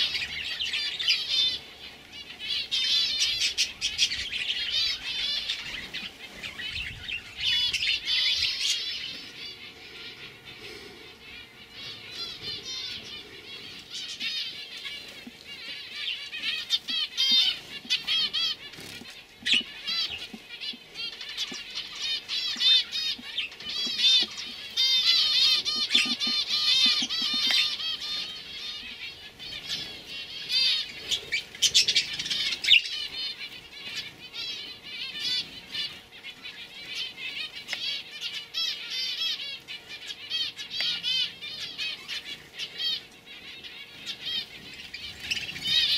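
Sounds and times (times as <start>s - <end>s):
canaries singing trills: 0.0s - 45.9s.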